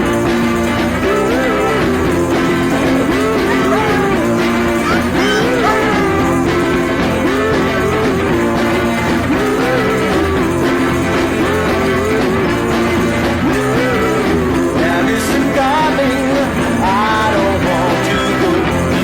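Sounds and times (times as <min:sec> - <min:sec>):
rock music with guitar: 0:00.0 - 0:19.0.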